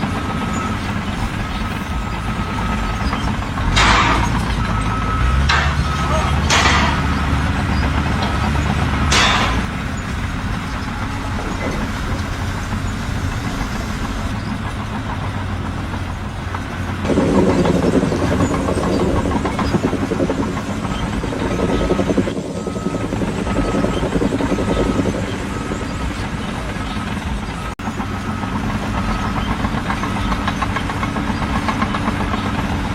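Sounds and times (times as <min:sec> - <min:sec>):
heavy machine engine running: 0:00.0 - 0:32.9.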